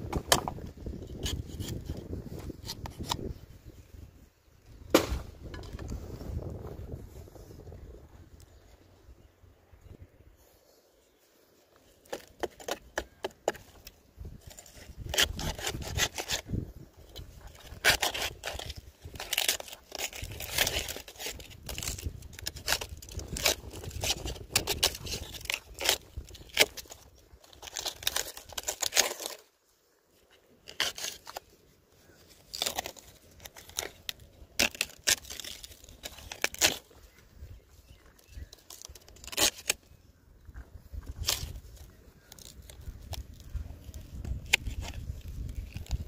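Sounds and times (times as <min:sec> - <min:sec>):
dry palm fibre tearing and rustling: 0:00.0 - 0:04.1, 0:10.4 - 0:46.0.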